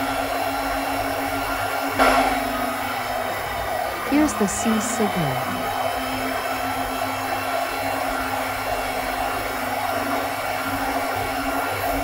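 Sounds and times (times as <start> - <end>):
electric cooling fans running: 0.0 - 12.0.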